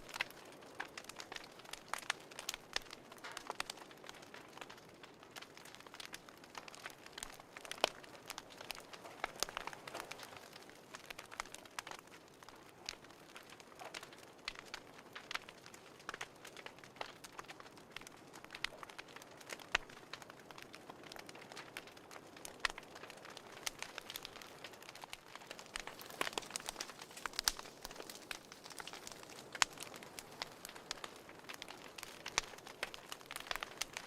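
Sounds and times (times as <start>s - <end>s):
fireplace fire crackling: 0.0s - 34.0s.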